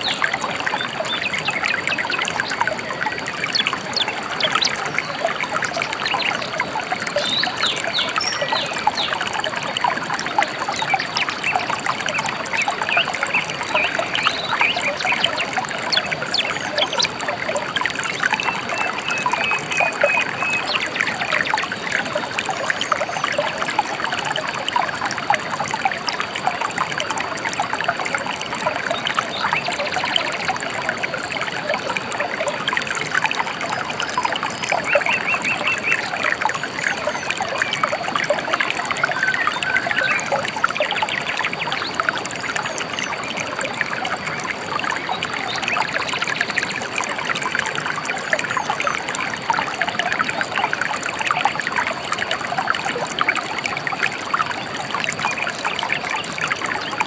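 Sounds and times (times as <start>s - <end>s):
river babbling: 0.0s - 57.0s.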